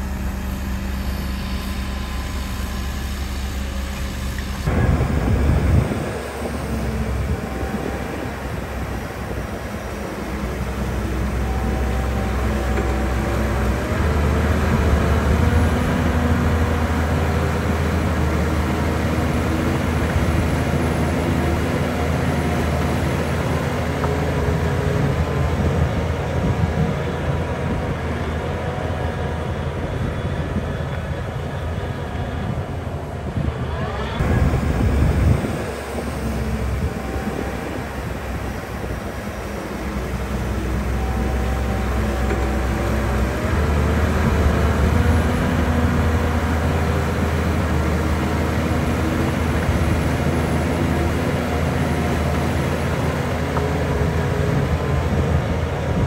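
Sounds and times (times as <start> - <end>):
diesel machinery rumbling: 0.0 - 56.0.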